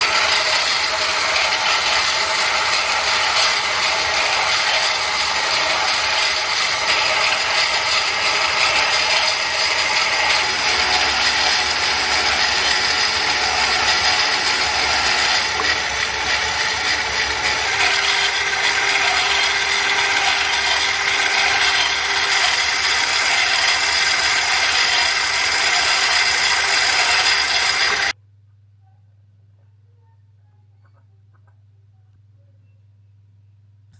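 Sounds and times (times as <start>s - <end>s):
machine whining tones: 0.0s - 28.2s
metal lathe cutting: 0.0s - 28.2s.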